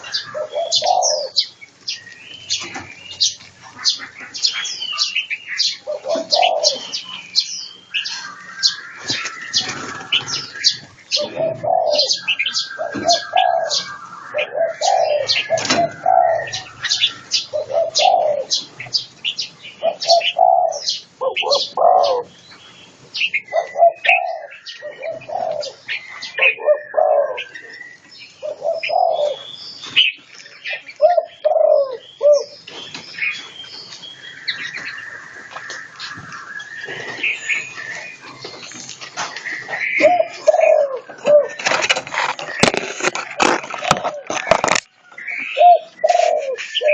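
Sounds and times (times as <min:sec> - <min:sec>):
doves cooing: 0:00.0 - 0:22.4, 0:23.2 - 0:33.4, 0:34.2 - 0:46.9
songbirds chirping: 0:00.0 - 0:46.9.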